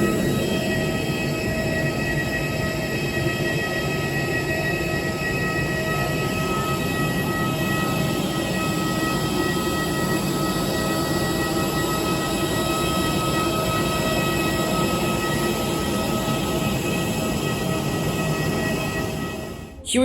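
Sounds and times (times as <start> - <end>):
engine drone with high whine: 0.0 - 19.9.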